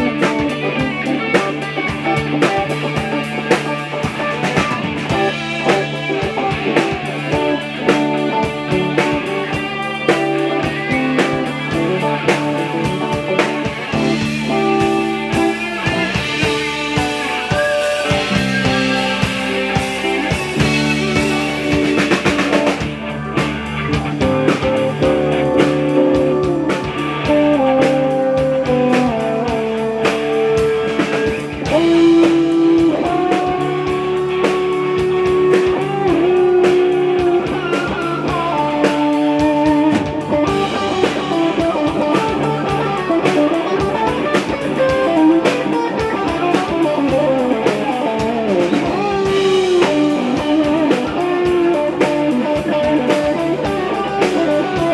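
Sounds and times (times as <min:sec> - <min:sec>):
drum kit: 0:00.0 - 0:54.9
electric guitar melody: 0:00.0 - 0:54.9.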